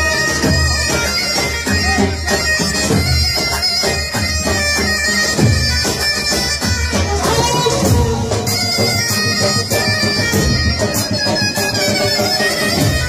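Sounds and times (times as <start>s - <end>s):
synthesizer wind-instrument melody: 0.0s - 13.0s.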